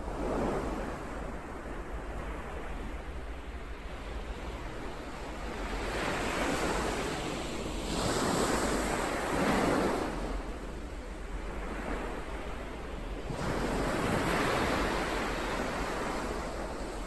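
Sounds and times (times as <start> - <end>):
ocean waves surging and washing: 0.0 - 17.0.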